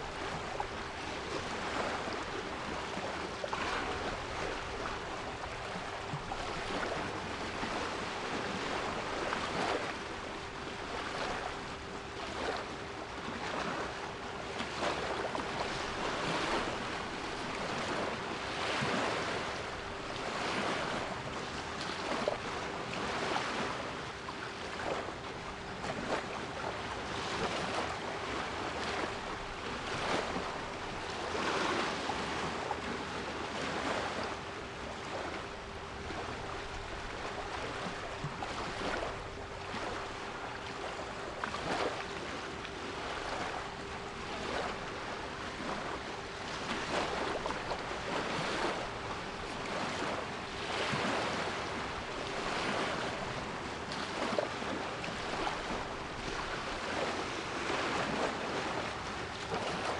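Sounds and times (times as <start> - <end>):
sea waves washing in: 0.0 - 59.9.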